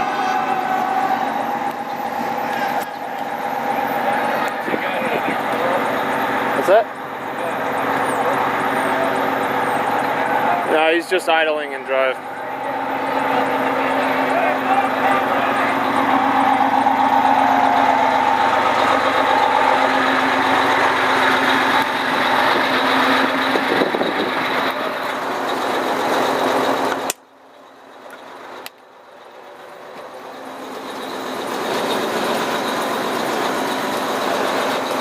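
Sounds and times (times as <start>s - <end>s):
fire engine idling: 0.0s - 35.0s.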